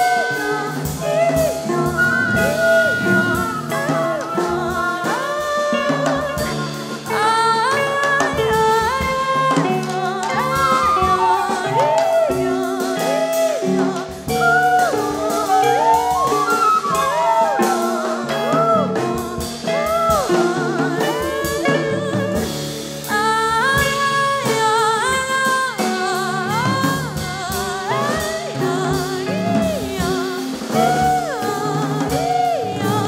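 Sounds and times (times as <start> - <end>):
band music with singing: 0.0 - 33.0
drum kit: 0.0 - 33.0.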